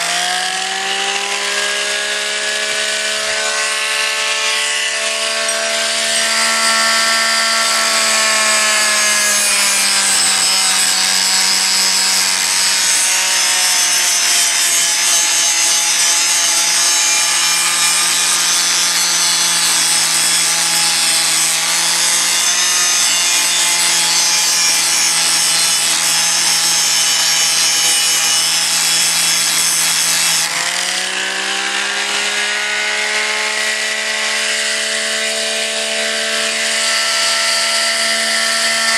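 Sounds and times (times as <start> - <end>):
angle grinder grinding steel: 0.0 - 38.9.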